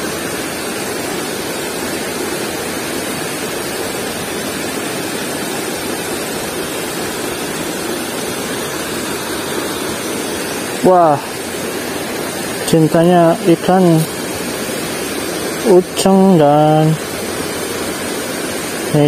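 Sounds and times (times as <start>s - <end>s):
river water flowing over rocks: 0.0s - 19.0s.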